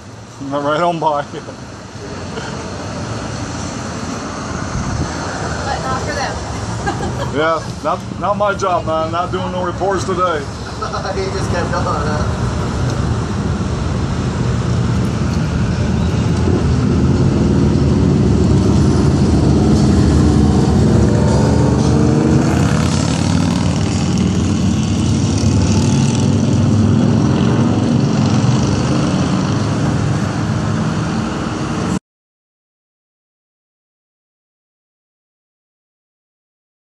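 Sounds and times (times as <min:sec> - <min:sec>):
road traffic passing: 0:00.0 - 0:32.0
vehicle engine passing by: 0:02.0 - 0:32.0.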